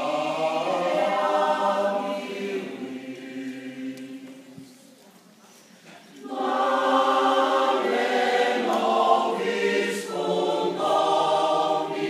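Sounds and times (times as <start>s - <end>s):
mixed choir singing chords: 0.0s - 4.7s, 6.1s - 12.0s.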